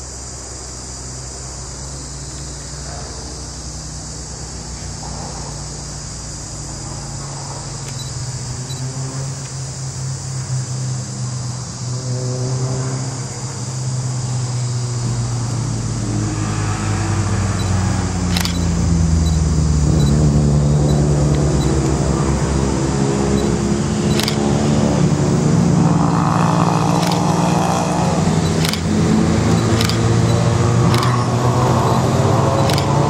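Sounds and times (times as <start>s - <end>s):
race car engines: 0.0s - 33.0s.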